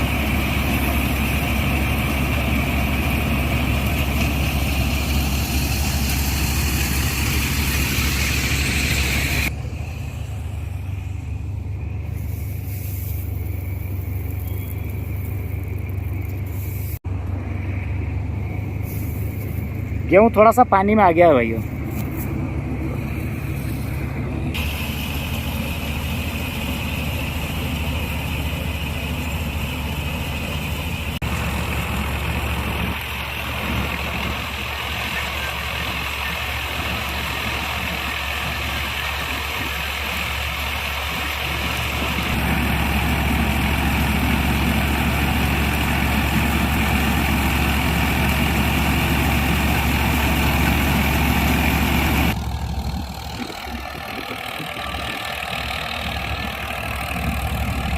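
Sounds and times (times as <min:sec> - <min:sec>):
harvesting machinery whir and rattle: 0:00.0 - 0:57.9
tractor engine drone: 0:00.0 - 0:57.9.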